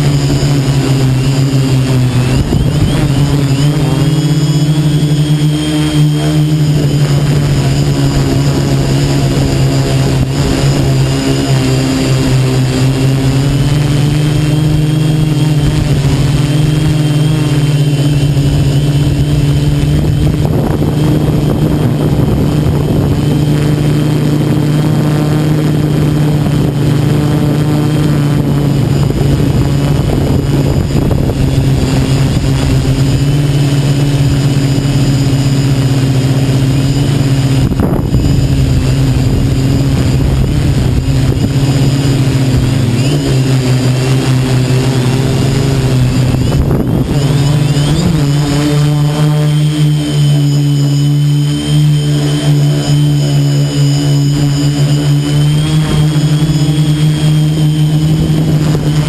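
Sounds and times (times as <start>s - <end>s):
drone propellers buzzing: 0.0s - 59.0s.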